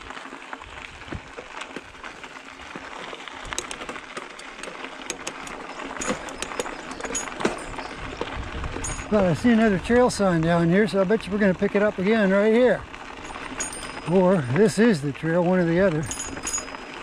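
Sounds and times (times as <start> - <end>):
bike tyres crunching on gravel: 0.0 - 17.0
stones clicking under tyres: 0.0 - 17.0.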